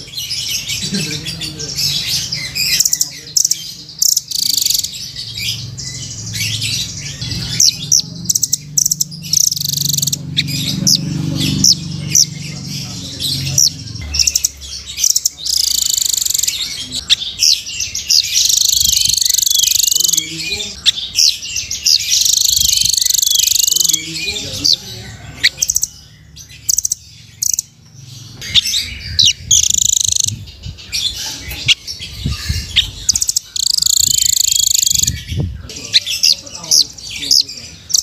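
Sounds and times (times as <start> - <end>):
bird trilling and chirping: 0.0 - 38.0.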